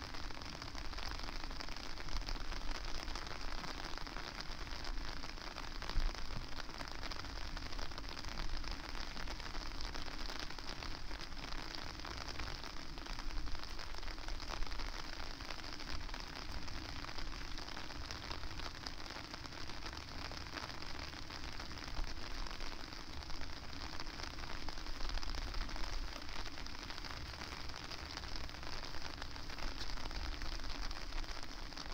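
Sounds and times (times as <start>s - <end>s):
rain drops ticking: 0.0s - 31.9s.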